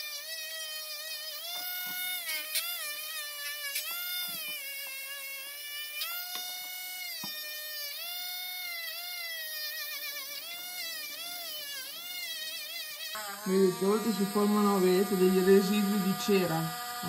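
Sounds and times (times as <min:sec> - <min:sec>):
rotary tool motor whine: 0:00.0 - 0:17.0.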